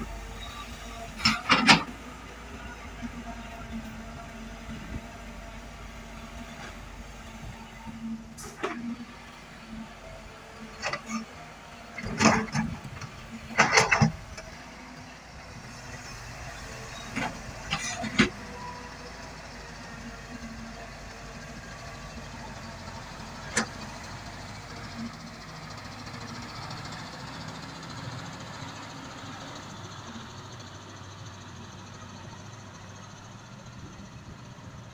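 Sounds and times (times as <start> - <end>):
diesel engines running: 0.0 - 34.9.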